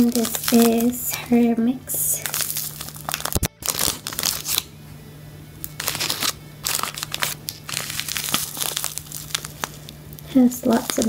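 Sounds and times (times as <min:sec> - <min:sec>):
plastic bag crinkling: 0:00.0 - 0:04.7, 0:05.6 - 0:11.0.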